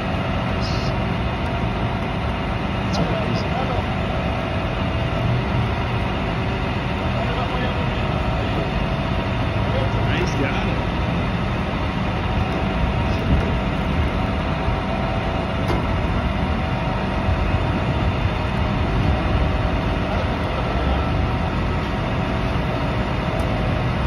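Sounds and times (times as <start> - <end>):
tow truck engine rumble: 0.0 - 24.0
winch running with whine: 0.0 - 24.0.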